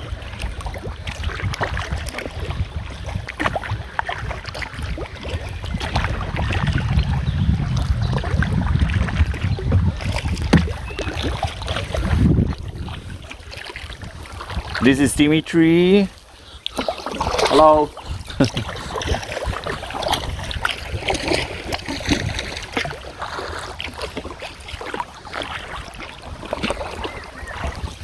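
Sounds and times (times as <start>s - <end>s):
paddle splashing water: 0.0s - 28.0s
wind rumbling on microphone: 0.0s - 28.0s.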